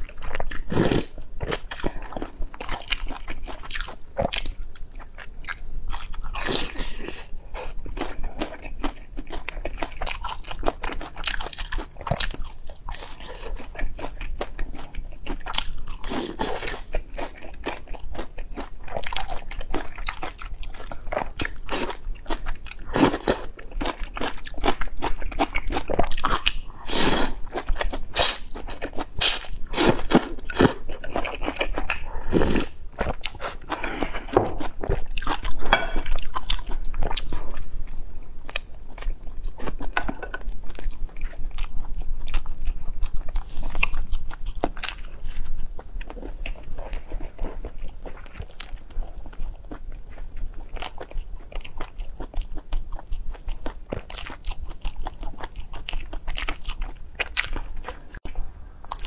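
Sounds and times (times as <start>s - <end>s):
chewing flatbread: 0.0s - 59.0s
person chewing noodles: 0.0s - 59.0s.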